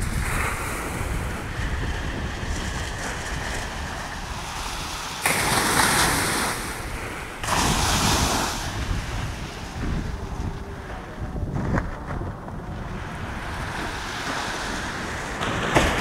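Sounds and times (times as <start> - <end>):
small waves washing on sand: 0.0 - 16.0
surf rushing: 0.0 - 16.0
wind rumble on microphone: 0.0 - 16.0.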